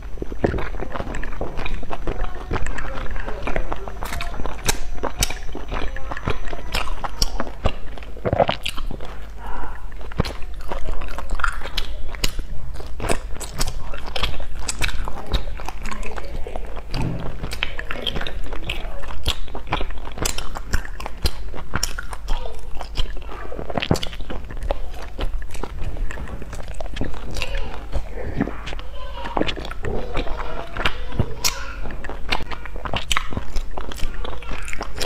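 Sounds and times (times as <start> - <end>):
chewing crunchy pastry: 0.0 - 35.0
crust crackling: 0.0 - 35.0.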